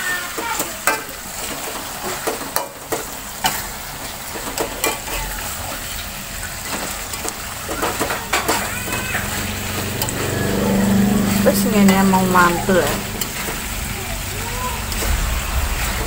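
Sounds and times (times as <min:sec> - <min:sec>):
food sizzling in wok: 0:00.0 - 0:16.0.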